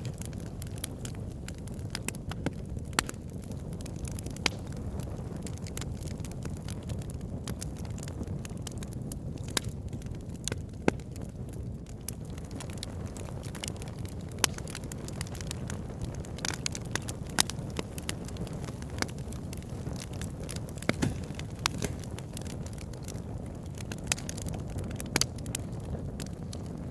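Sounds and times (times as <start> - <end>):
fire crackling and popping: 0.0 - 26.9
fire flames rushing: 0.0 - 26.9.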